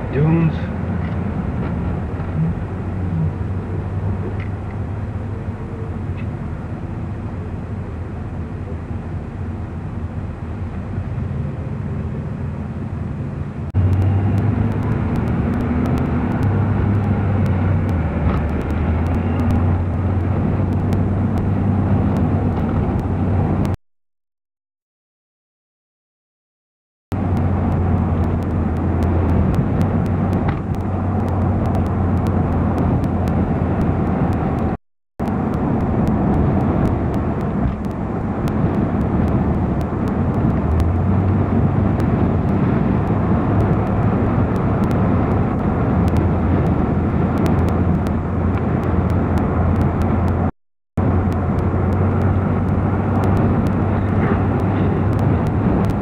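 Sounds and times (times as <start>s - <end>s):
car engine and road noise: 0.0s - 23.8s, 27.1s - 56.0s.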